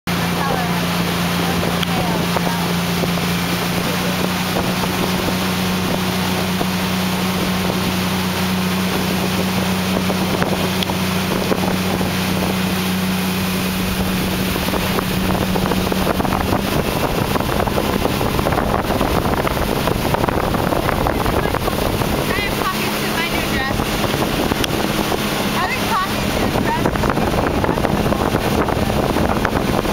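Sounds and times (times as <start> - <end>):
churning water: 0.0 - 29.9
motorboat engine drone: 0.1 - 29.9
wind rushing: 0.1 - 29.9.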